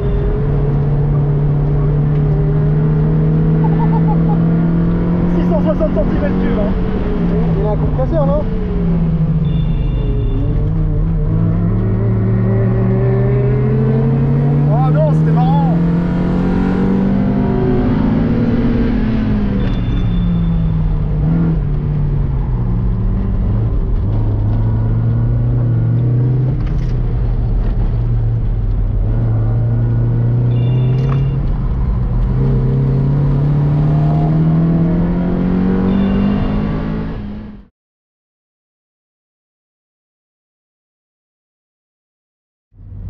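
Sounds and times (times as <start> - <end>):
car engine running hard: 0.0 - 37.6.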